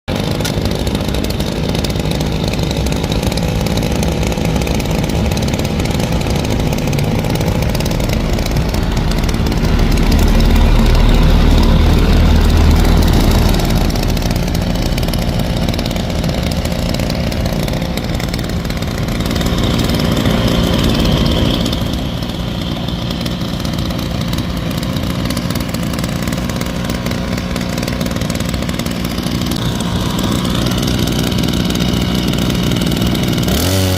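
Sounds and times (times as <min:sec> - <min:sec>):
grass cutter engine revving: 0:00.1 - 0:33.9.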